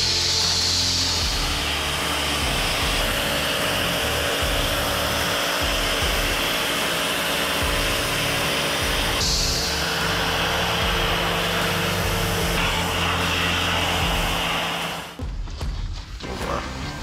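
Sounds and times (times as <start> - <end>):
pressure washer jet spraying: 0.0 - 15.2.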